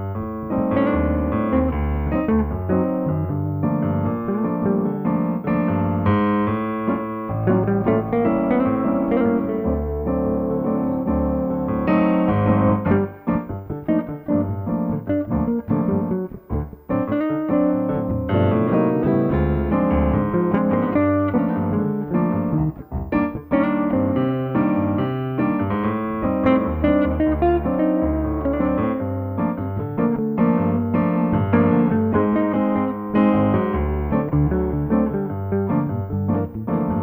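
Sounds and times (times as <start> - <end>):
bossa nova piano: 0.0 - 37.0
jazz guitar: 0.0 - 37.0.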